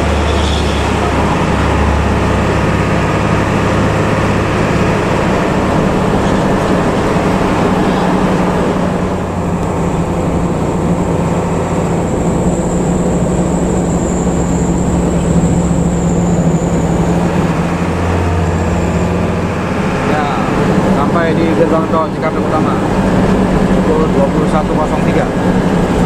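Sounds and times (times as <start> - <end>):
bus engine drone: 0.0 - 26.0
thin high whine: 0.0 - 26.0
tyre and road noise: 0.0 - 26.0.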